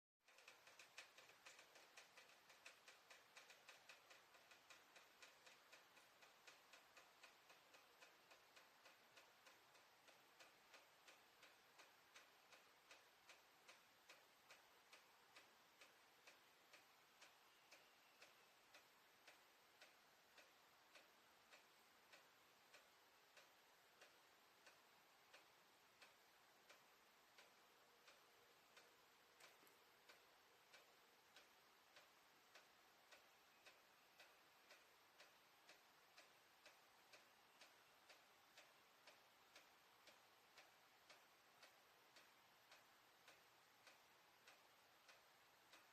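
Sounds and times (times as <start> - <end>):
faint ticking in plumbing: 0.2 - 45.9.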